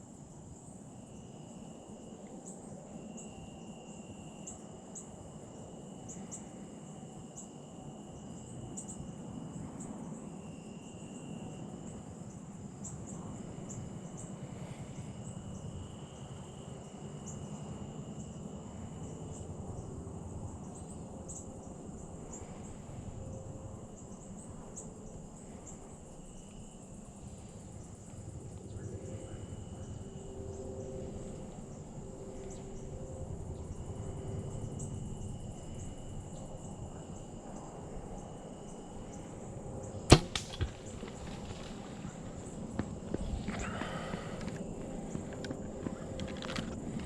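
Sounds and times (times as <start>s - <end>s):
insects chirring: 0.0s - 47.0s
lower insect call: 0.0s - 47.0s.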